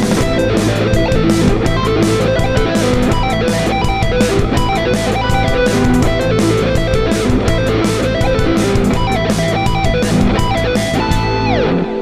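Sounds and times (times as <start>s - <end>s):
backing track chords: 0.0s - 12.0s
electric guitar arpeggios: 0.0s - 12.0s.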